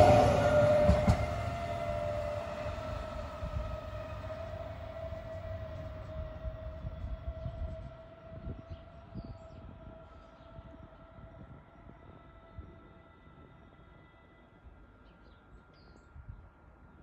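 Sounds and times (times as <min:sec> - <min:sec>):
train wheel rumble: 0:00.0 - 0:15.2
electric train whine: 0:00.0 - 0:16.9.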